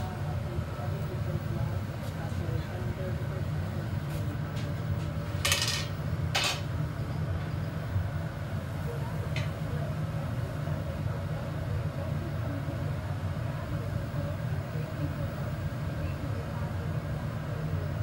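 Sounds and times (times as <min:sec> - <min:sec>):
furnace rumbling: 0:00.0 - 0:18.0.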